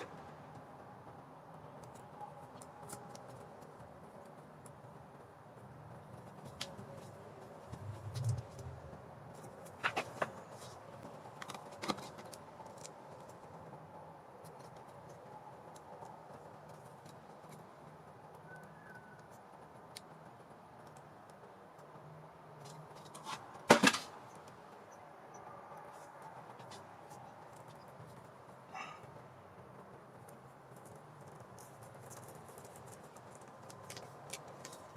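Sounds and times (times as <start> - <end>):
faint background hum: 0.0 - 34.9.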